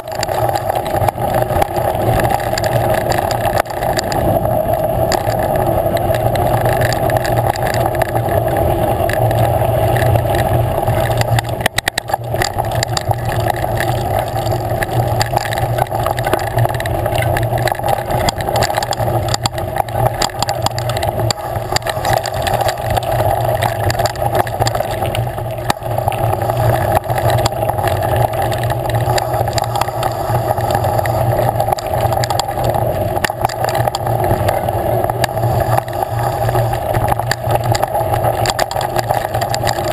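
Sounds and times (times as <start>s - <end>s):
mountain bike riding on dirt: 0.0s - 39.9s.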